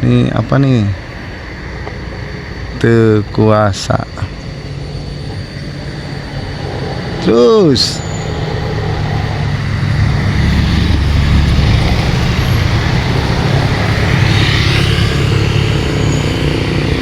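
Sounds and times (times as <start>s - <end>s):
tyre and road noise: 0.0s - 17.0s
vehicle engine droning: 0.0s - 17.0s.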